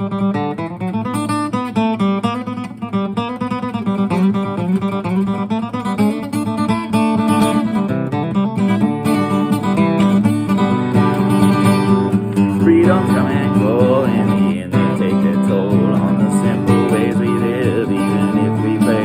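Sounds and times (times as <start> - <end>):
acoustic guitar flatpicking: 0.0 - 19.0.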